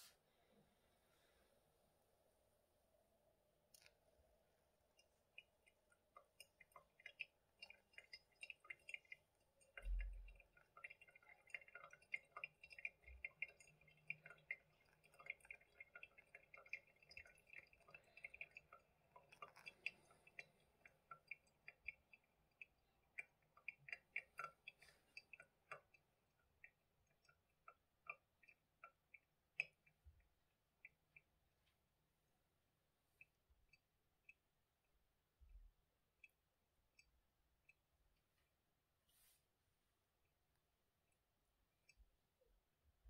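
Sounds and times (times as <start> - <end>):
coffee dripping through a filter: 3.4 - 43.0.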